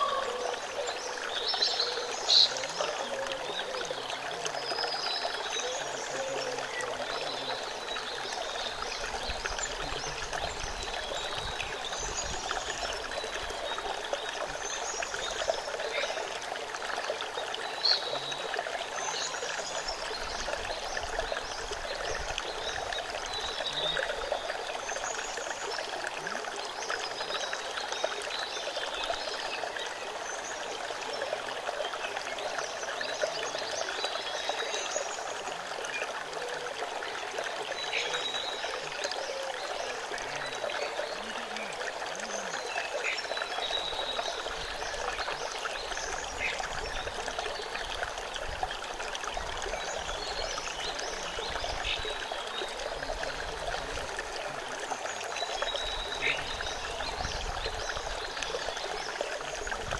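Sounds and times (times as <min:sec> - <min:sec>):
stream running over stones: 0:00.0 - 0:59.9
water trickling and splashing: 0:00.0 - 0:59.9.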